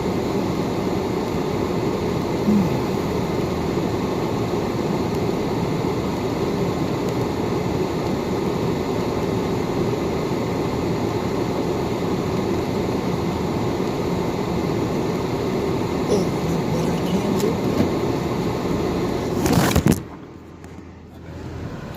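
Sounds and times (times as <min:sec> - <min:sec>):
car road and engine rumble: 0:00.0 - 0:21.9.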